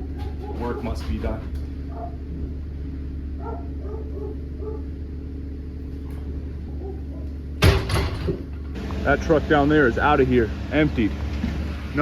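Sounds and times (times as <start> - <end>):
heavy diesel engines droning: 0.0 - 12.0.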